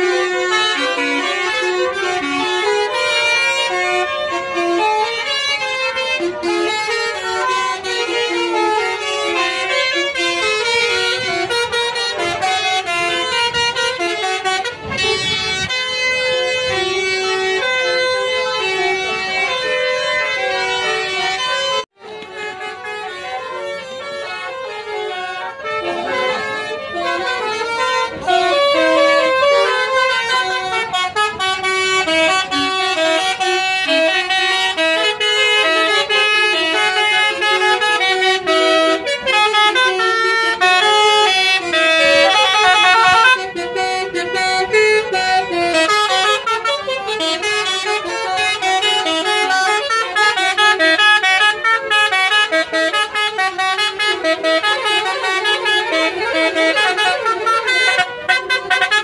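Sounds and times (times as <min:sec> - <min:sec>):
bus musical horn playing tune: 0:00.0 - 0:59.0.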